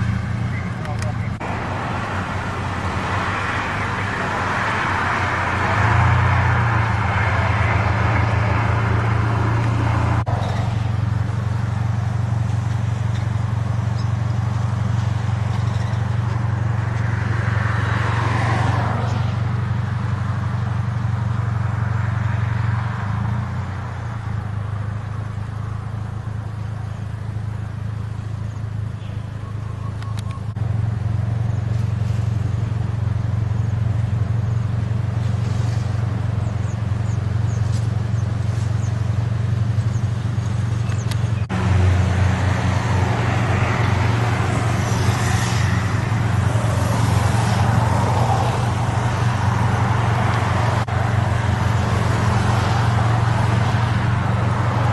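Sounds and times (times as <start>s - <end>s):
low engine rumble: 0.0s - 54.9s.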